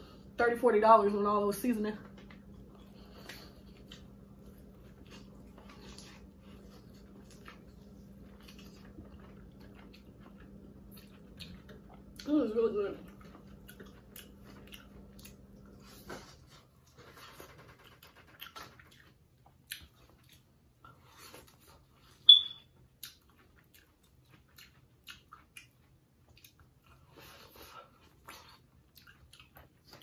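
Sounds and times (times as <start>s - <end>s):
wet chewing: 2.1s - 12.3s, 13.0s - 30.0s.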